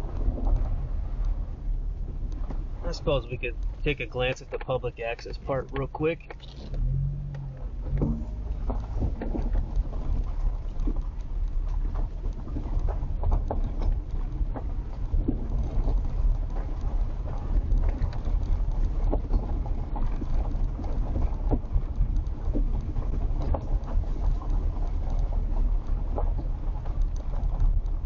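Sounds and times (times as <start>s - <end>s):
vehicle rumbling on unpaved road: 0.0s - 28.0s.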